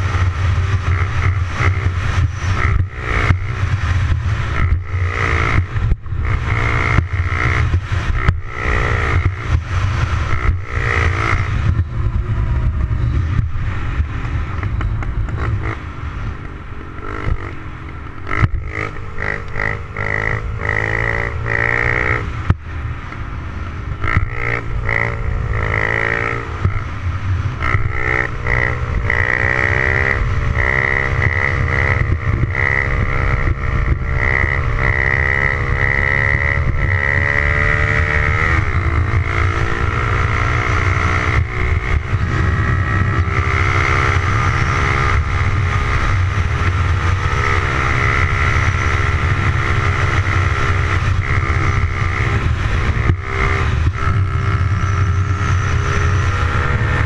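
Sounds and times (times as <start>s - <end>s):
motorbike engine revving: 0.0s - 57.0s
wind rumble on microphone: 0.0s - 57.0s.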